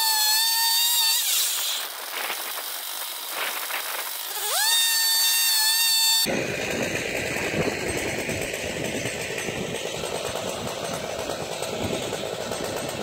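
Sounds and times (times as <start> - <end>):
chainsaw engine high whine: 0.0 - 13.0.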